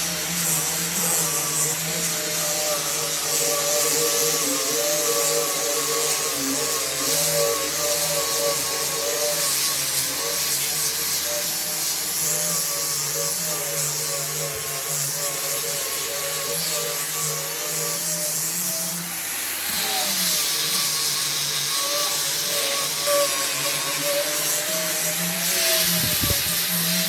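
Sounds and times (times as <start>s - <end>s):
electric power tool motor running: 0.0s - 27.0s.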